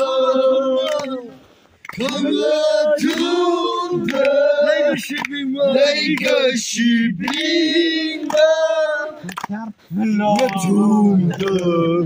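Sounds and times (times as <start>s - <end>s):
group singing chant-like song: 0.0s - 12.0s
hand claps: 0.8s - 1.2s, 1.8s - 11.8s.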